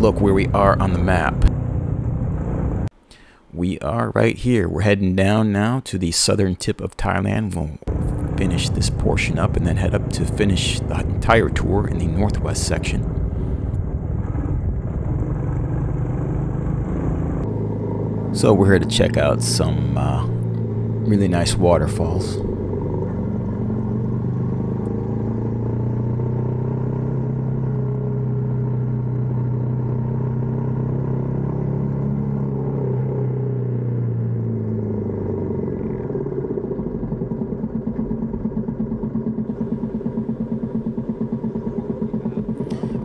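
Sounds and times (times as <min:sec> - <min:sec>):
small motorbike engine: 0:07.9 - 0:13.8, 0:14.4 - 0:43.0.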